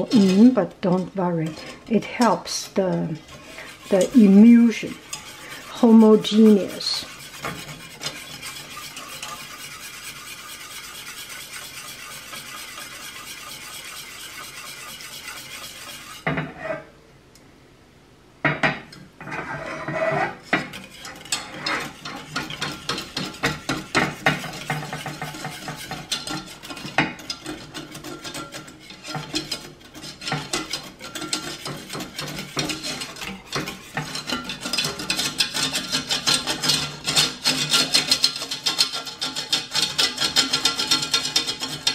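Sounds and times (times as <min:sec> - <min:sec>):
whisk scraping a metal saucepan: 0:00.0 - 0:16.9, 0:19.2 - 0:41.9.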